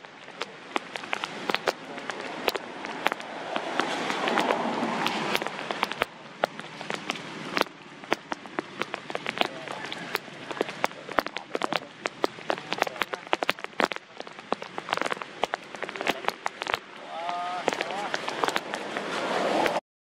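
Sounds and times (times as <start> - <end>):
raindrops tapping close by: 0.0 - 19.8.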